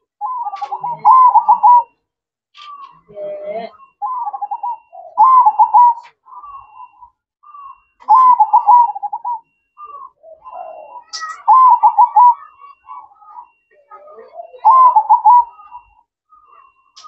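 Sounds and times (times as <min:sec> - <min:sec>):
dove cooing: 0:00.0 - 0:02.0, 0:02.6 - 0:16.9.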